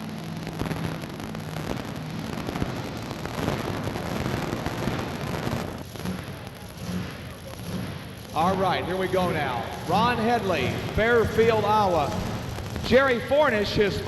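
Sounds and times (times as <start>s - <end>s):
tractor engine popping roughly: 0.8s - 14.0s.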